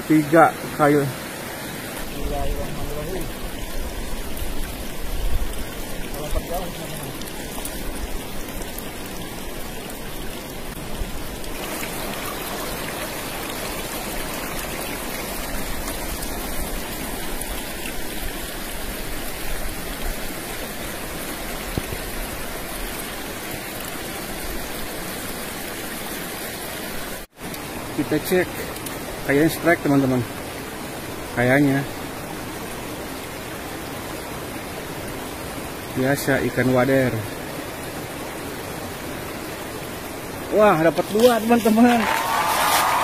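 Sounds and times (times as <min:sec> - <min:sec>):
river flowing over rocks: 0:00.0 - 0:43.0.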